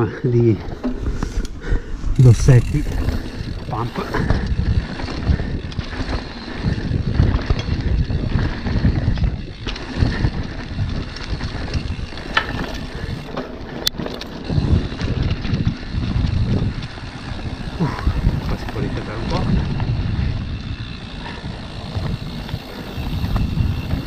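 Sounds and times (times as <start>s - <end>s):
wind buffeting microphone: 0.0s - 24.0s
bike tyre rumble on gravel: 0.1s - 24.0s
bike frame rattle: 0.3s - 24.0s.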